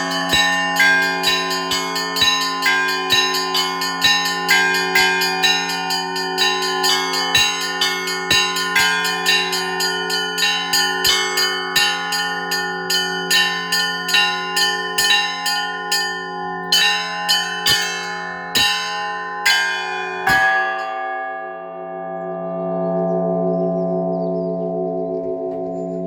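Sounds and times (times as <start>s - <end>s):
large bells humming: 0.0s - 26.0s
small church bells striking: 0.0s - 26.0s.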